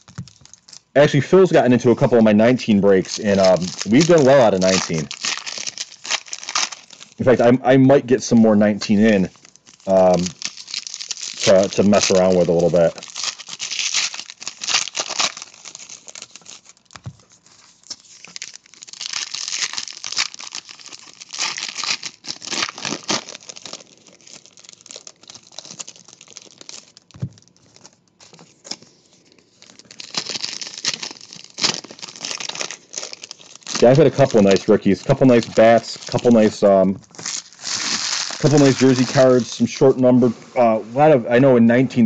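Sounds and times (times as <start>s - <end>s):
wrappers crinkling and tearing: 0.0s - 7.5s, 8.2s - 40.1s.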